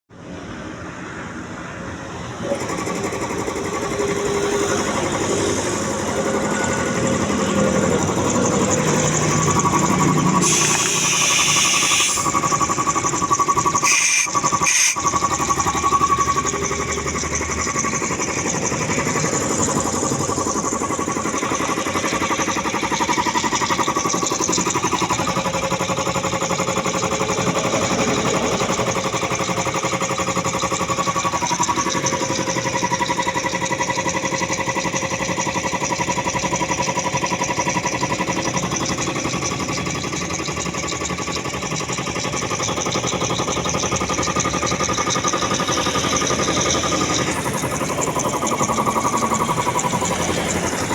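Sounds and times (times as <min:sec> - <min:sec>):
air compressor pump pulsing: 0:00.2 - 0:50.9.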